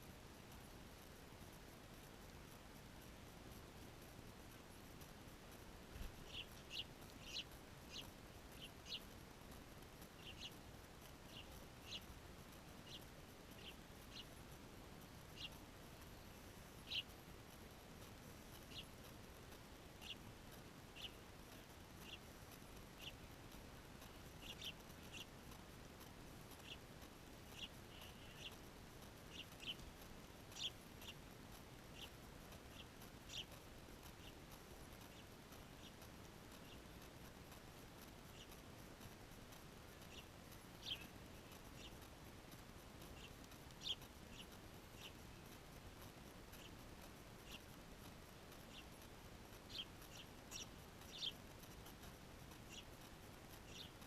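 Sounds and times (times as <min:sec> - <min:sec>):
faint steady hiss: 0:00.0 - 0:54.0
small birds chirping: 0:00.0 - 0:54.0.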